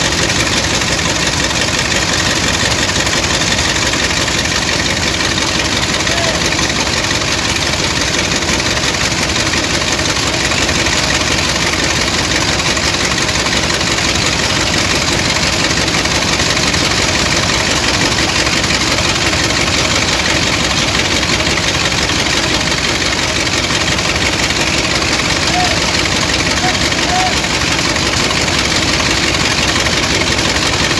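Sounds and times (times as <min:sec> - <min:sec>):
dredger engine droning: 0:00.0 - 0:30.9.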